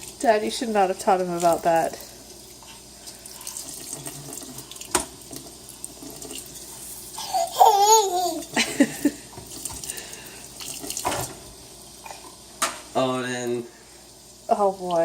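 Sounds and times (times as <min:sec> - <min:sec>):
water running into sink: 0:00.0 - 0:15.0.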